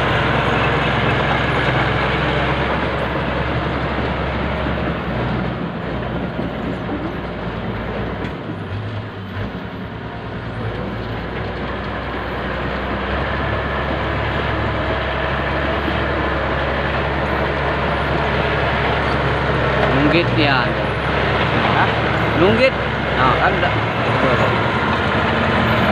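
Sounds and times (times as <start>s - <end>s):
bulldozer engine working: 0.0s - 25.9s.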